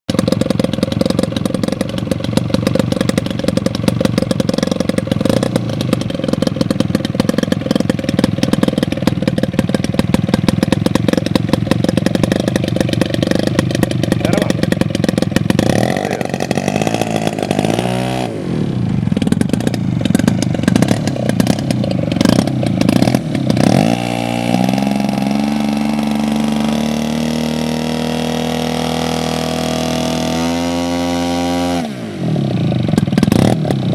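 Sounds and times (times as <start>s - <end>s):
model airplane engine running: 0.1s - 33.9s.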